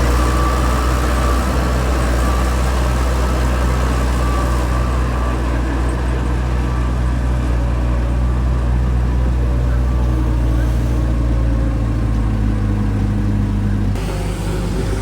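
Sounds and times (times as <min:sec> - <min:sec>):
diesel engine of heavy machinery: 0:00.0 - 0:15.0.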